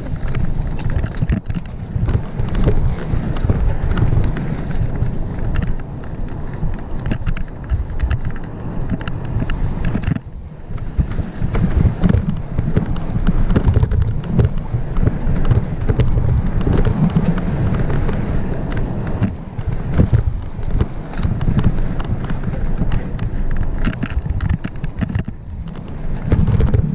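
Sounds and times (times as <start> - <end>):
bike chain and frame rattling: 0.0 - 26.9
bike tyres rumbling on dirt: 0.0 - 26.9
wind buffeting microphone: 0.0 - 26.9.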